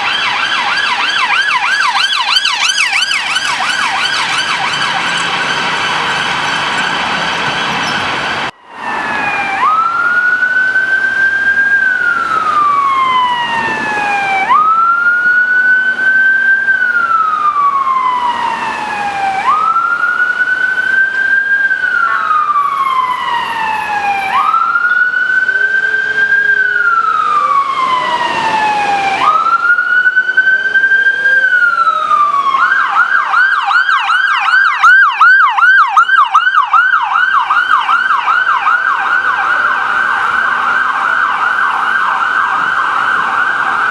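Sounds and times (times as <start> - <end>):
ambulance siren wailing and yelping: 0.0 - 43.9.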